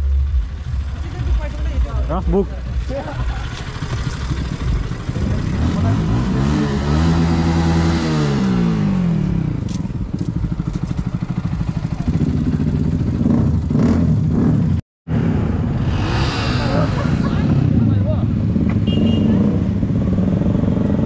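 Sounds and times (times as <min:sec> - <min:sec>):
motorcycle engines revving and idling: 0:00.0 - 0:21.0.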